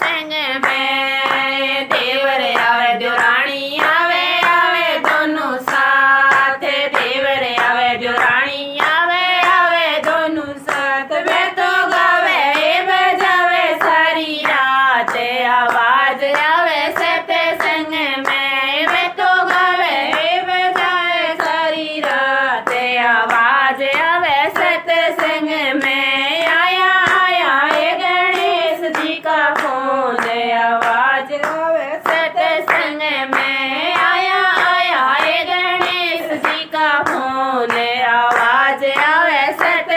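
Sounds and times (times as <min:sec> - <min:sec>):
hand claps: 0:00.0 - 0:39.9
woman singing: 0:00.0 - 0:39.9.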